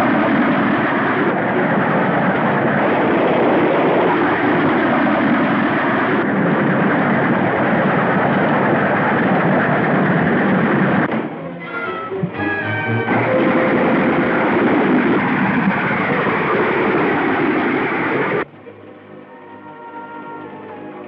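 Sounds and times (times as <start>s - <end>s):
steam train rushing on rails: 0.0s - 21.0s.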